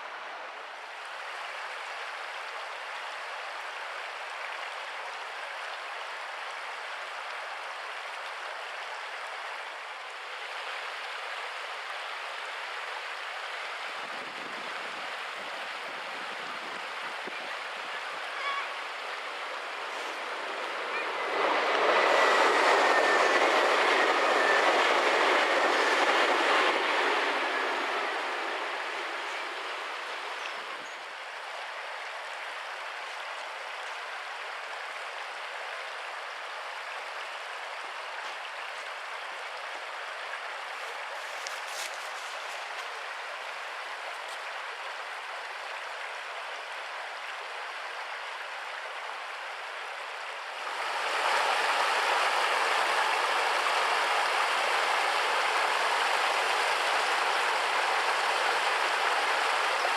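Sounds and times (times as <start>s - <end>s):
flowing stream water: 0.0s - 59.9s.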